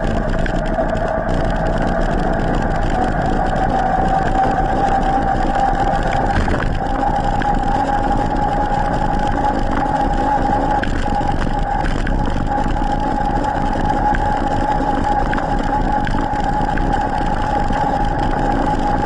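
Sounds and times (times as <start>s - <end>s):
electric bike motor whining: 0.0s - 19.0s
wind and tyres on asphalt: 0.0s - 19.0s.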